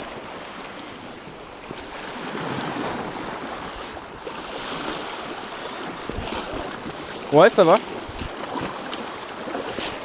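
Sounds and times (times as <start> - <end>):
wind on microphone: 0.0 - 10.0
sea surf splashing on rocks: 1.7 - 10.0.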